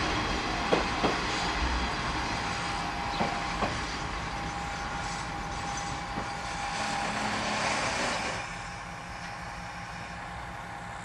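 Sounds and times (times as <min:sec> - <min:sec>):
diesel railcar engine droning: 0:00.0 - 0:11.0.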